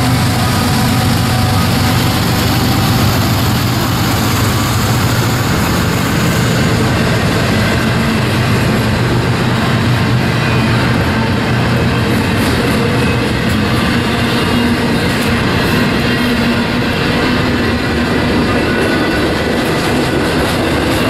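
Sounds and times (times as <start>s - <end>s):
diesel locomotive engine drone: 0.0s - 21.0s
freight cars rolling past: 0.0s - 21.0s.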